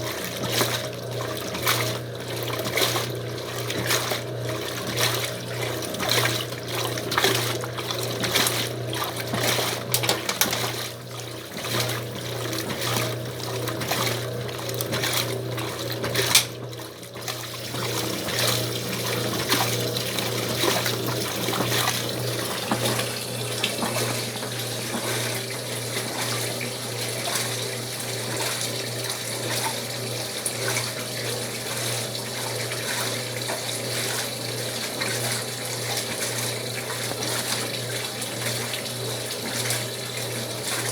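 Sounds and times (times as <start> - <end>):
washing machine motor hum: 0.0 - 40.9
water churning and splashing: 0.0 - 40.9.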